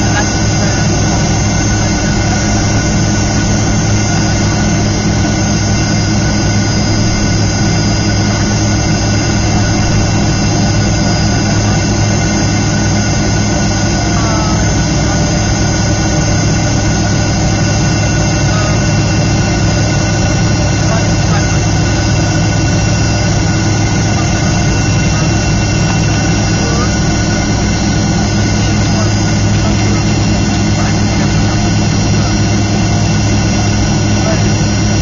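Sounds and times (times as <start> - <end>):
jet engine whine: 0.0 - 35.0
low hum and rushing noise: 0.0 - 35.0.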